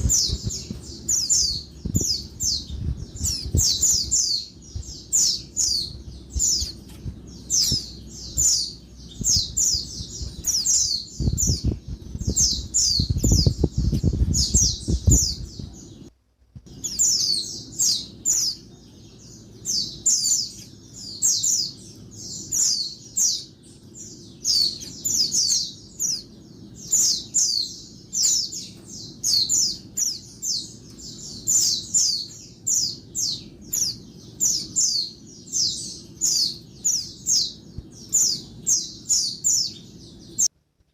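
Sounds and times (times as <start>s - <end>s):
bird rapid high chirps: 0.0s - 16.1s, 16.7s - 40.5s.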